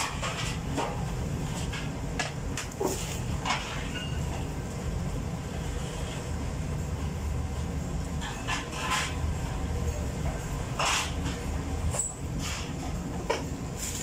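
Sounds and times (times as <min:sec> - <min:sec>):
bakery machinery rumble: 0:00.0 - 0:14.0.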